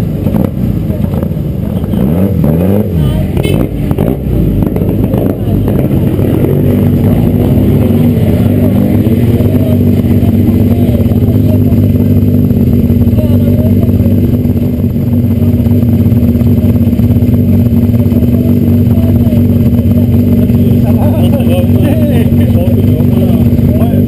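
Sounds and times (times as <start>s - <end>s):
car engine idling loudly: 0.0s - 24.0s.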